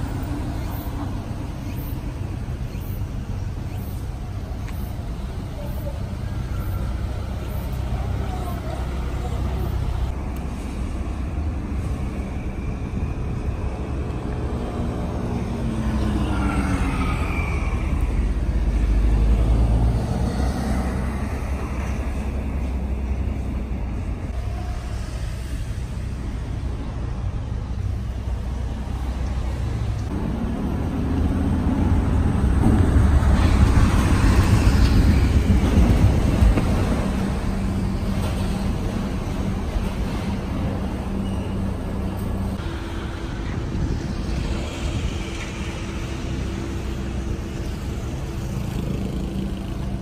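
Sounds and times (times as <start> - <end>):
engine and tyre rumble: 0.0 - 50.0
passing traffic: 0.0 - 50.0.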